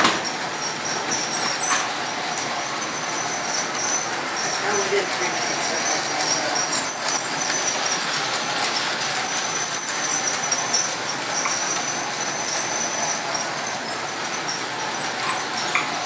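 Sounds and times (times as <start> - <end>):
model train wheels rumbling on rails: 0.0 - 16.0
thin high squeal: 0.2 - 16.0.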